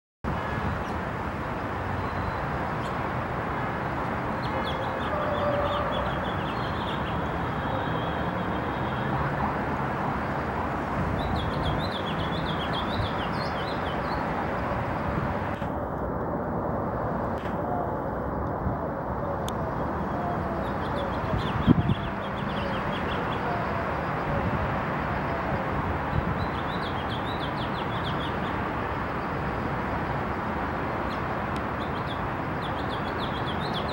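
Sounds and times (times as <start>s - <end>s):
city traffic hum: 0.2s - 33.9s.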